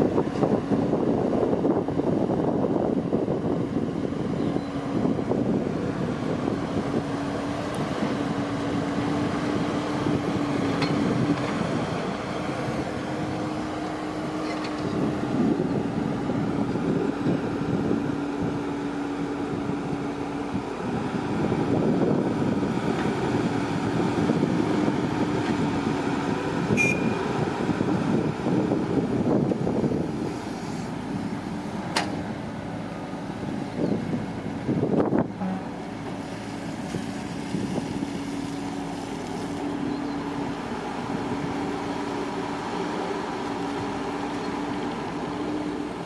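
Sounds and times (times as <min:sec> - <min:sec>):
farm machine engine running: 0:00.0 - 0:46.0
wind noise on microphone: 0:00.0 - 0:46.0.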